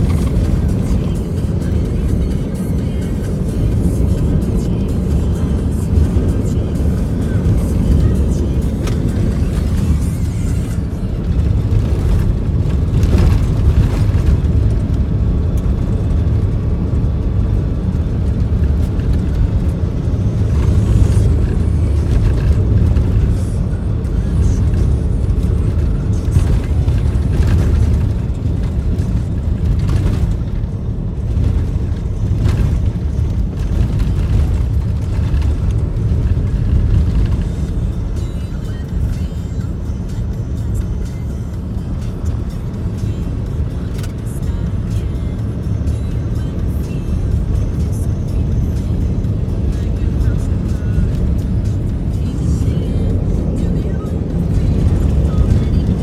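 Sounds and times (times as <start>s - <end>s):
car rumbling on gravel road: 0.0s - 56.0s.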